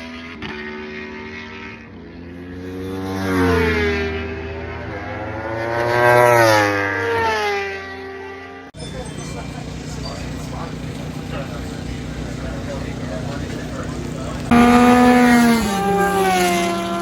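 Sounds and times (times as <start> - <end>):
motorcycles passing at speed: 0.0 - 8.7, 9.8 - 17.0.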